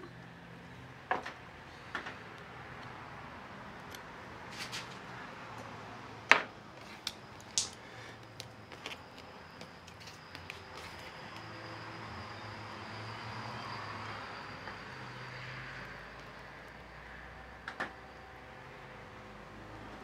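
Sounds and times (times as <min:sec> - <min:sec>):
background hum and hiss: 0:00.0 - 0:20.0.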